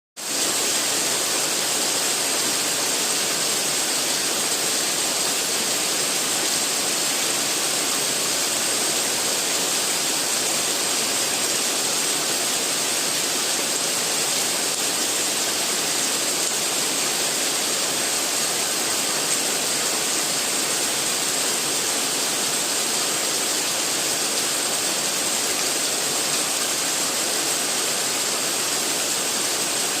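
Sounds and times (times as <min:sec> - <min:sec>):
heavy rain falling: 0:00.2 - 0:30.0.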